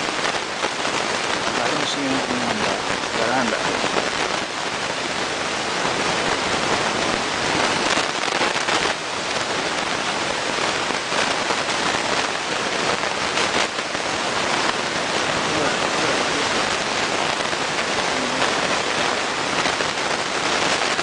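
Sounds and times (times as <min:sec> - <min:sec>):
rain-like hiss: 0:00.0 - 0:21.0.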